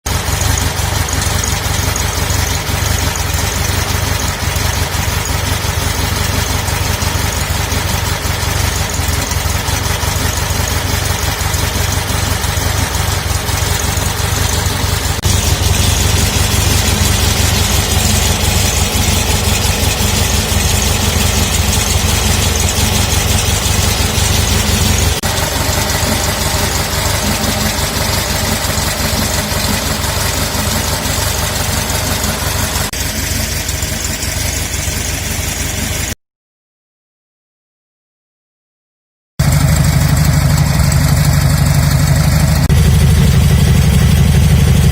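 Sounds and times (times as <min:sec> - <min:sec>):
car engine idling: 0:00.0 - 0:36.2, 0:39.4 - 0:44.9.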